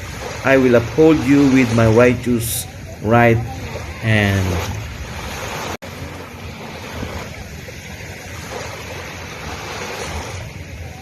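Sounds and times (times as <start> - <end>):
sea waves breaking on beach: 0.0 - 11.0
wind on microphone: 0.0 - 11.0.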